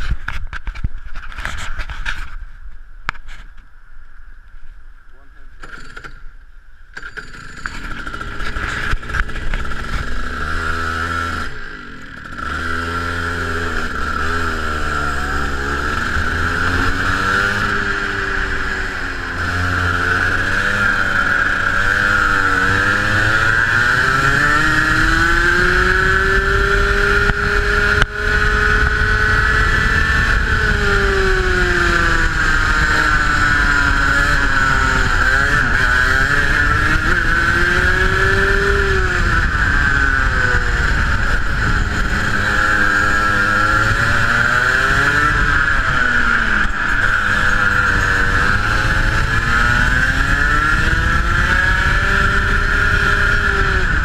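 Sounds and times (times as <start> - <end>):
kart engine revving: 7.0 - 54.0.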